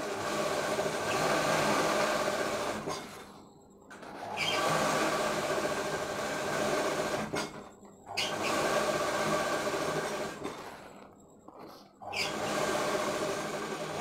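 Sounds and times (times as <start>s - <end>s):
sewing machine running: 0.0s - 3.4s, 4.0s - 11.0s, 12.0s - 14.0s.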